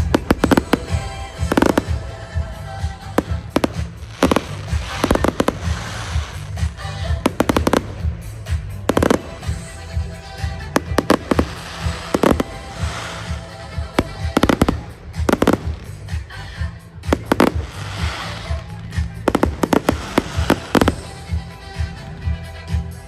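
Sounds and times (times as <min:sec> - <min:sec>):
fireworks bangs and crackling: 0:00.0 - 0:23.0
loud music with pulsing bass: 0:00.0 - 0:23.0.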